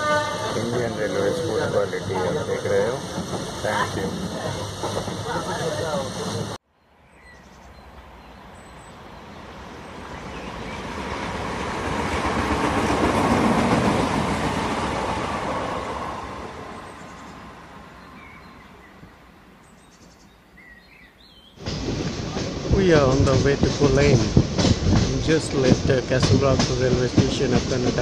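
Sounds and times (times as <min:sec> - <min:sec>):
train rumbling on tracks: 0:00.0 - 0:06.6, 0:07.7 - 0:19.5, 0:21.5 - 0:28.0.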